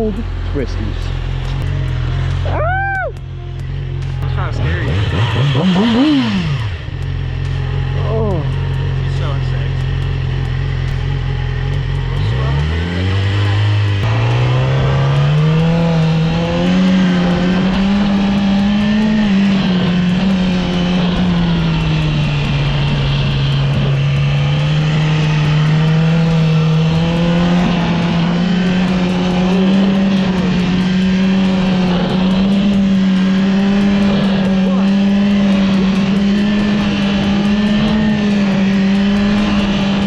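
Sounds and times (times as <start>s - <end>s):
motorcycle engine running hard: 0.0s - 40.0s.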